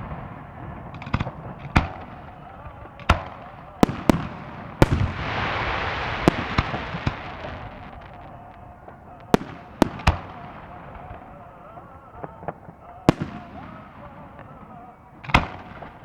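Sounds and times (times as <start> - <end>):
crackling firework shower: 0.0 - 16.0
firework bangs: 0.0 - 16.0.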